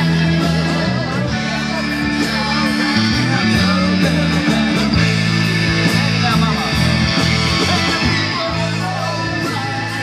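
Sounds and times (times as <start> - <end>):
bass guitar: 0.0 - 10.0
drum beat: 0.0 - 10.0
electric guitar: 0.0 - 10.0.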